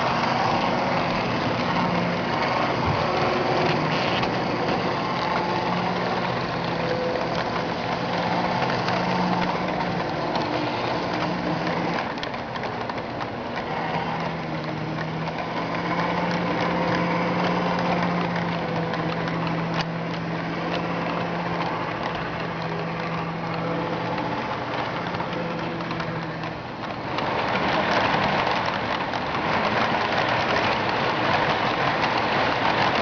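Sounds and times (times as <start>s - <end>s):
model train motor hum: 0.0s - 33.0s
wheels clicking over rail joints: 0.0s - 33.0s.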